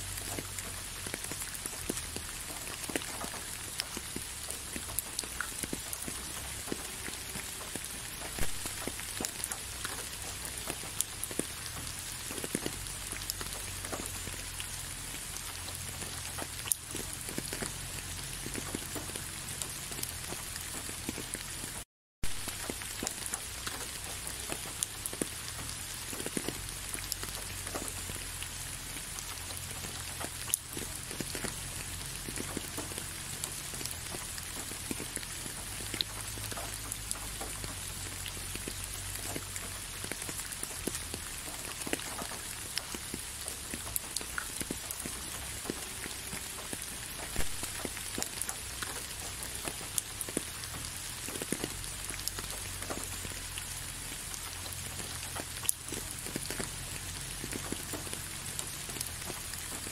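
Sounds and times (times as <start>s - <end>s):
rain drops on hard surface: 0.0s - 59.9s.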